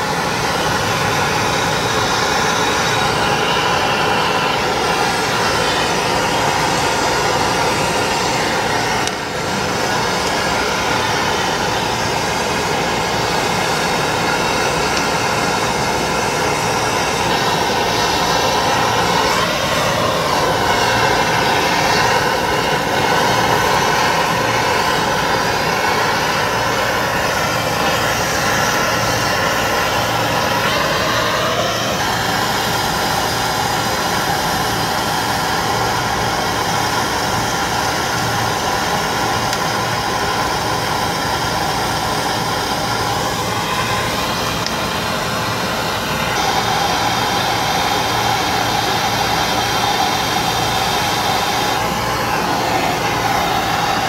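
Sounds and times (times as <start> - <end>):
gas torch hissing: 0.0 - 54.0.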